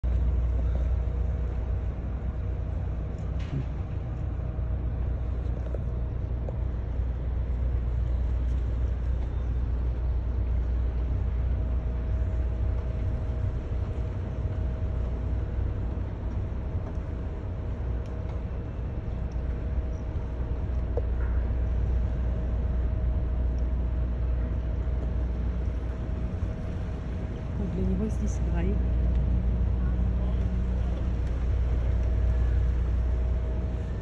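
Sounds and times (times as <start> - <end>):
faint constant hum: 0.0 - 34.0
low engine rumble: 0.0 - 34.0.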